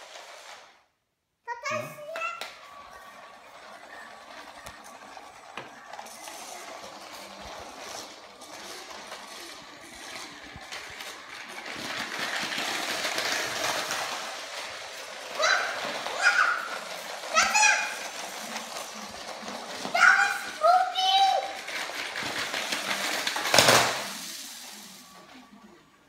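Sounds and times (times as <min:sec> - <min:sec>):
toy train wheels clattering: 0:02.0 - 0:25.4.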